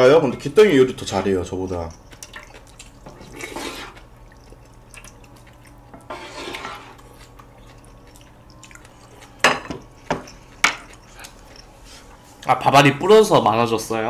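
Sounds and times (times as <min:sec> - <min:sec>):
porridge sloshing into bowl: 0:00.3 - 0:12.5.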